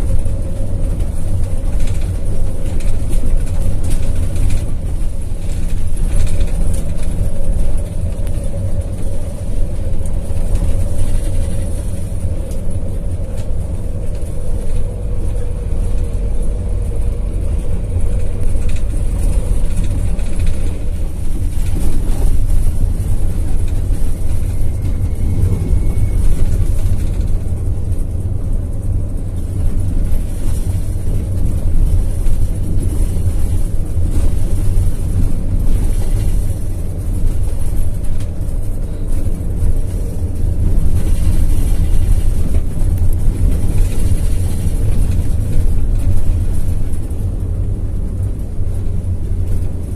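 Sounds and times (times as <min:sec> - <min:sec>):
bus engine and road rumble: 0:00.0 - 0:49.9.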